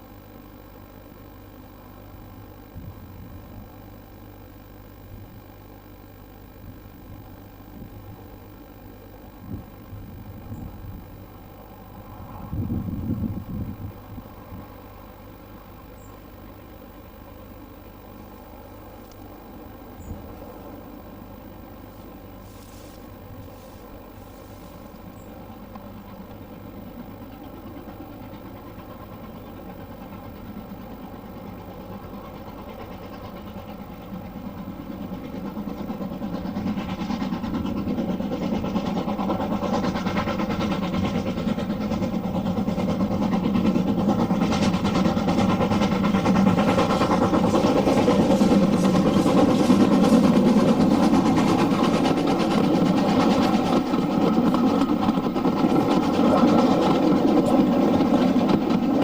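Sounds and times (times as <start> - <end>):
diesel train engine running: 0.0 - 59.0.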